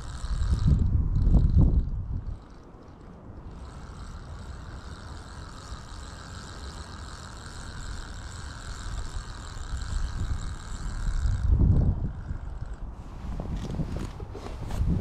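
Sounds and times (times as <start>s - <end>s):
fishing reel whirring: 0.0s - 14.3s.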